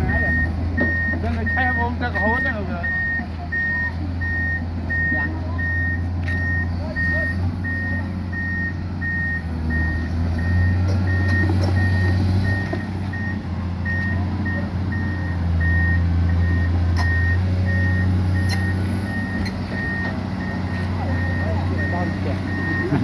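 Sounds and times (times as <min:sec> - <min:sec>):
excavator diesel engine running: 0:00.0 - 0:23.0
warning alarm beeping: 0:00.0 - 0:23.0.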